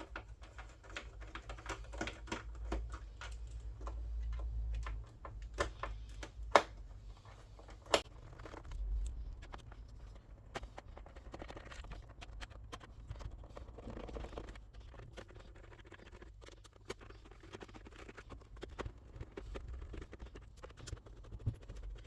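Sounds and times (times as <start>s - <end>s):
screwdriver clicking and scratching: 0.0s - 6.8s, 7.6s - 22.0s.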